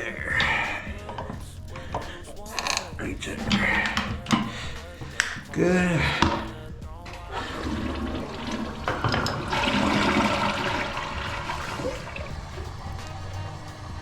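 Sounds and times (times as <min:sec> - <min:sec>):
toilet cistern refilling: 0:00.0 - 0:14.0
toilet flushing: 0:00.0 - 0:14.0.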